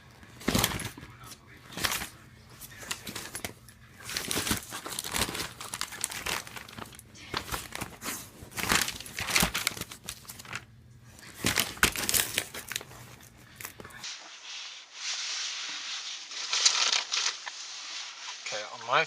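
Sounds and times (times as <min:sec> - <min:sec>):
packaging crinkling and rustling: 0:00.3 - 0:14.0, 0:16.3 - 0:18.6.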